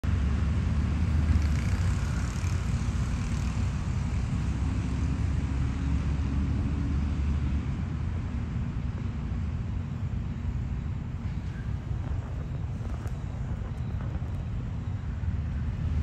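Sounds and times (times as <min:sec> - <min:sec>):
low urban rumble: 0:00.0 - 0:16.0.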